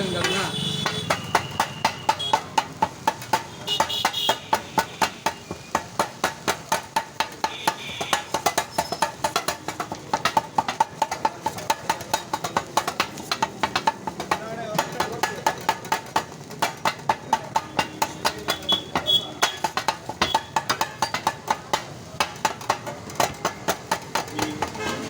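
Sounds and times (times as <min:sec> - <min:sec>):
metal blades clanging on griddle: 0:00.1 - 0:25.0.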